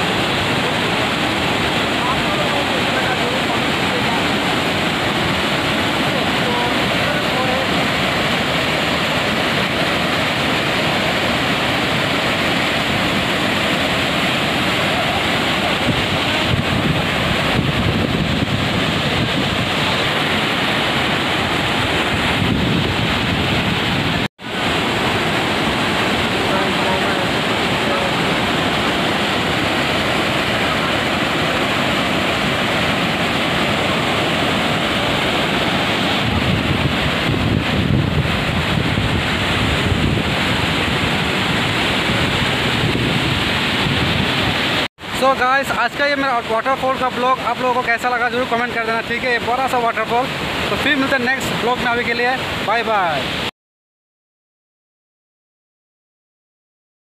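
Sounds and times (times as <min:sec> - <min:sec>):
waterfall rushing: 0:00.0 - 0:53.5.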